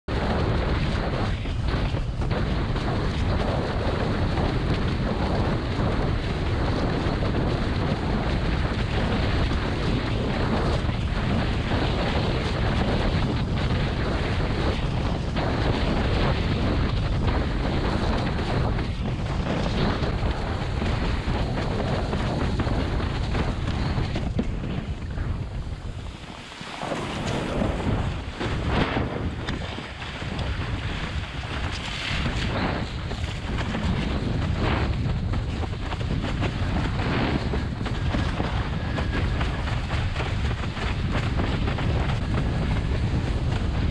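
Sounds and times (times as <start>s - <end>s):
board rushing over choppy water: 0.0s - 43.9s
wind buffeting microphone: 0.0s - 43.9s.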